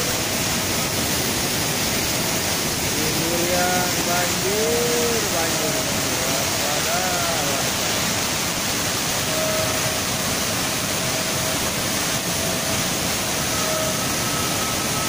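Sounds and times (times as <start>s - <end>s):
muddy river water rushing: 0.0s - 15.0s.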